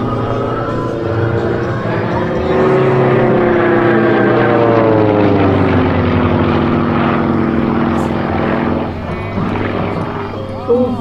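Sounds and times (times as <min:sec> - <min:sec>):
plane engine overhead: 0:00.0 - 0:11.0.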